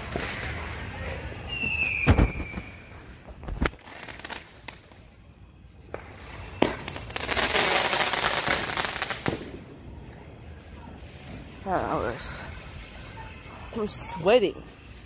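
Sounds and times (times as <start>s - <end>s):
fireworks bangs and crackle: 0.0s - 12.8s.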